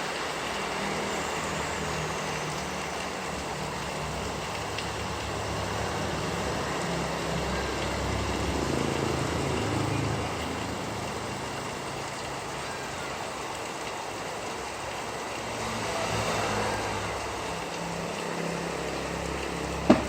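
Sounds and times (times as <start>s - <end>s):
passing motor vehicle hum: 0.0s - 20.0s
steady rain hiss: 0.0s - 20.0s.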